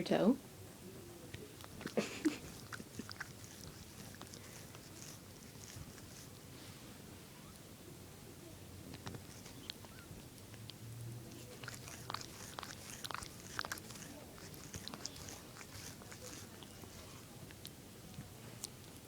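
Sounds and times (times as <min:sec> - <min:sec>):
cat licking its paw: 0:01.3 - 0:07.0, 0:08.9 - 0:19.0.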